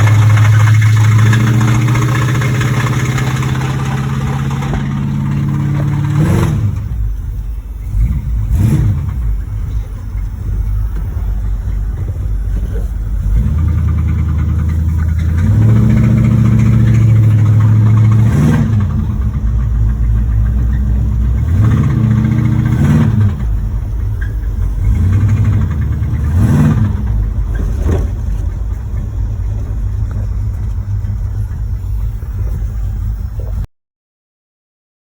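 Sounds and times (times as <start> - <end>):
car engine revving: 0.0 - 33.7
engine knocking: 0.0 - 33.7.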